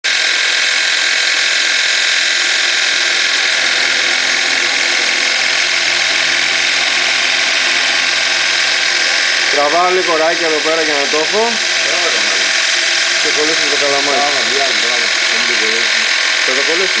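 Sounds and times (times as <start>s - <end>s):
milling machine cutting metal: 0.0s - 17.0s.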